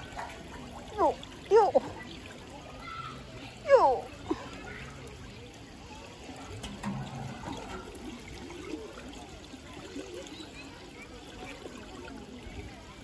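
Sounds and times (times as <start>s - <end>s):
water trickling in channel: 0.0s - 13.0s.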